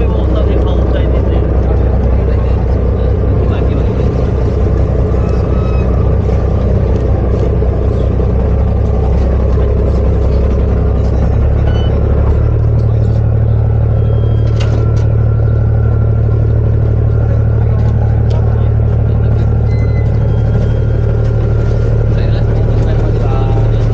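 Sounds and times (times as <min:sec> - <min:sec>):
boat engine humming: 0:00.0 - 0:23.9.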